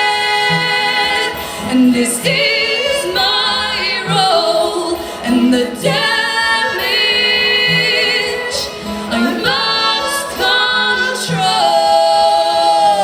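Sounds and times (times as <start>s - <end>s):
women singing with vibrato: 0.0s - 13.0s.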